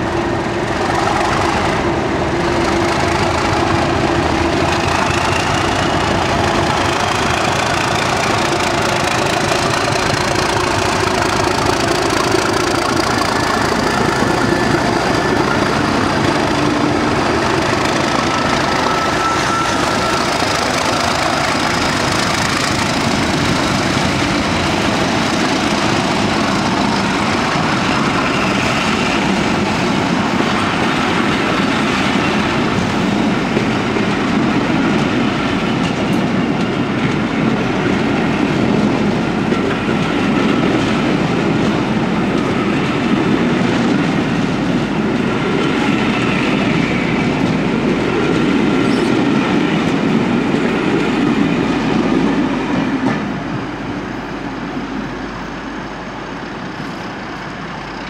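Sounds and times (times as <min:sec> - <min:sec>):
carriages rolling by: 0:00.0 - 0:52.4
diesel locomotive engines running hard: 0:00.0 - 0:58.0.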